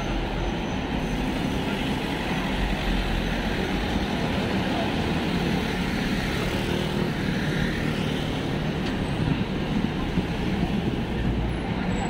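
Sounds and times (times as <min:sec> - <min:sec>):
road traffic: 0:00.0 - 0:12.0
vehicle engines passing: 0:00.0 - 0:12.0.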